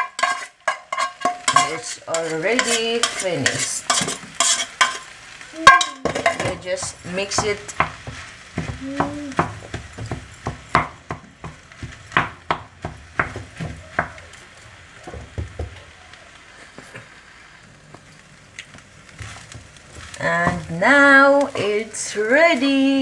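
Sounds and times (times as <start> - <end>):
faint sizzle: 0.0 - 23.0
spatula scraping a pan: 0.0 - 23.0.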